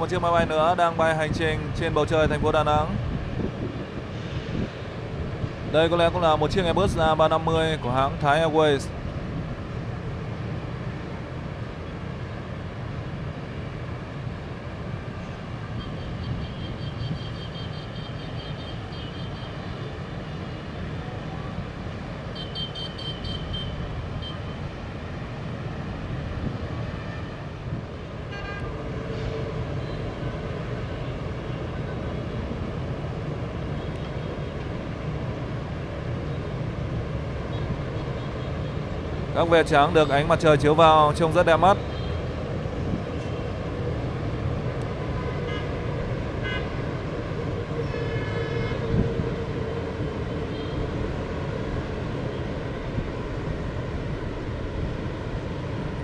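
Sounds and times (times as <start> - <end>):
city traffic rumble: 0.0 - 56.0.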